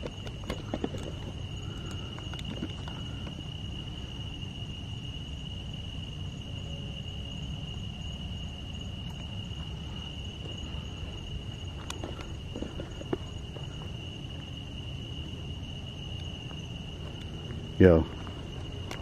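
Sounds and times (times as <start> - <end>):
crickets trilling: 0.0 - 19.0
low steady rumble: 0.0 - 19.0.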